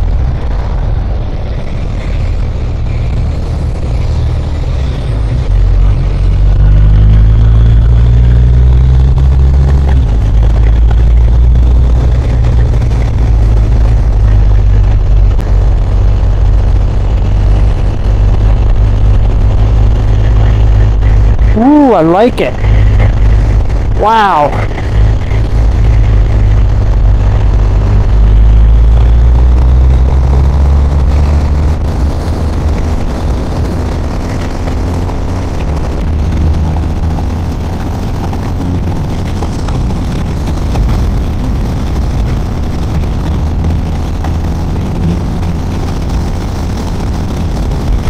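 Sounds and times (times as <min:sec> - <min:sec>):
motorcycle engine humming: 0:00.0 - 0:48.0
wind and road noise: 0:00.0 - 0:48.0.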